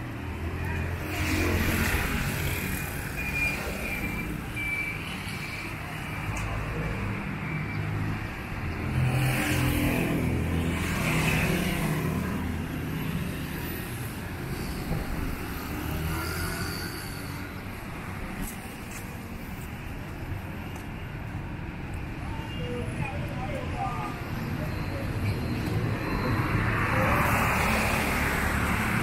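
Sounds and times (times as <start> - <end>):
light traffic hum: 0.0 - 29.0.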